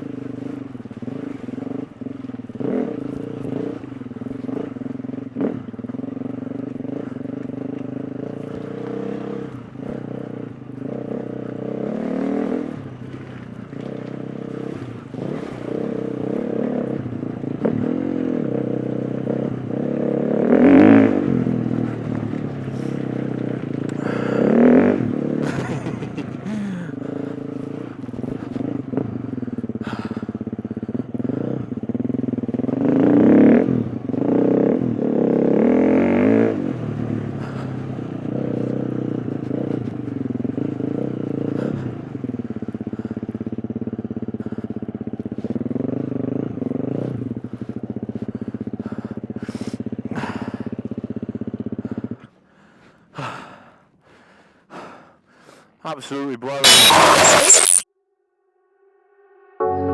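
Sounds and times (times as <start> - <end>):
motorcycle engine revving: 0.0 - 52.4, 56.1 - 57.9.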